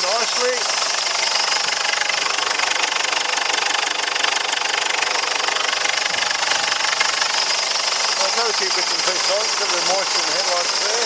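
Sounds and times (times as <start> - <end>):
diesel engine idling clatter: 0.0 - 11.0.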